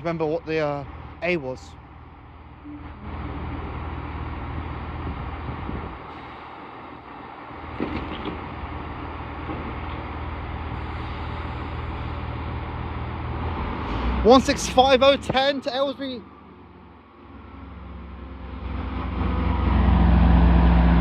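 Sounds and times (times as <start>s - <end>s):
diesel train engines idling: 0.0s - 21.0s.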